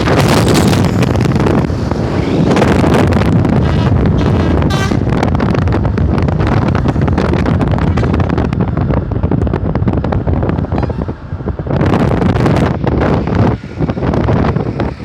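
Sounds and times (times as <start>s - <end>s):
large road vehicle rumble: 0.0s - 15.0s
loud rush of noise: 0.0s - 15.0s
wind buffeting microphone: 0.0s - 15.0s.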